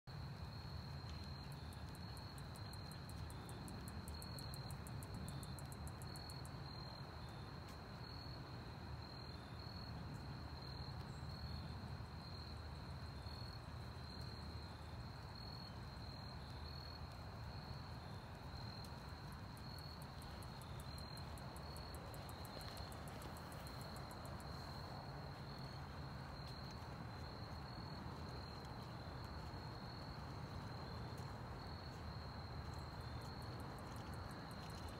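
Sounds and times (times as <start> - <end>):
low background noise: 0.1 - 34.9
insect trill: 0.3 - 8.4, 9.0 - 34.9.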